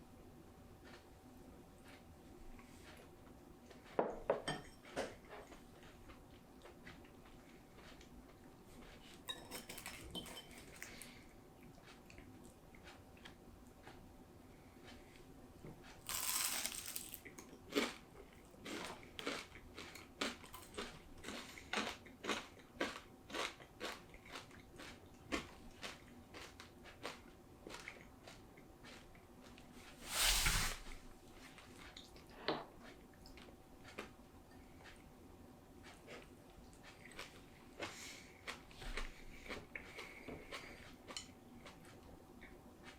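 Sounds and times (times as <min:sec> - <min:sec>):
person chewing crisp food: 0:00.7 - 0:04.0, 0:05.5 - 0:14.0, 0:15.8 - 0:29.7, 0:32.8 - 0:42.9.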